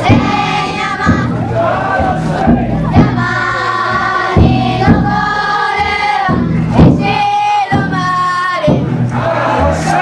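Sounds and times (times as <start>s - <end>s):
big drum strikes: 0.0s - 10.0s
many voices singing a chant: 0.0s - 10.0s.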